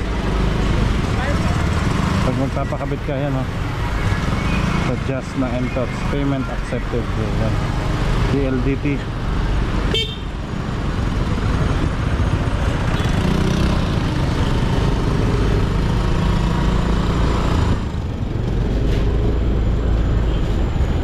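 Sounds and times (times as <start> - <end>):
road traffic with engines running: 0.0 - 21.0.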